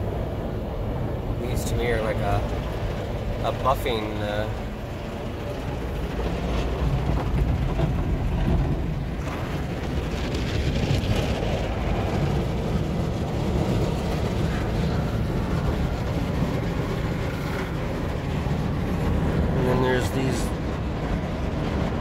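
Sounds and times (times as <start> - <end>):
car wash machinery rumbling: 0.0 - 22.0.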